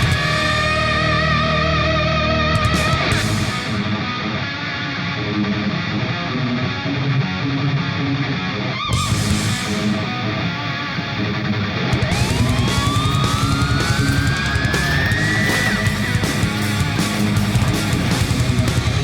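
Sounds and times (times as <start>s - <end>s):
heavy rock electric guitar music: 0.0s - 19.0s.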